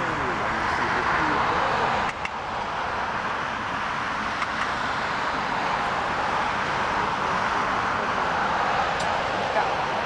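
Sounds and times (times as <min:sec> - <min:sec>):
distant jet engines at takeoff: 0:00.0 - 0:10.0.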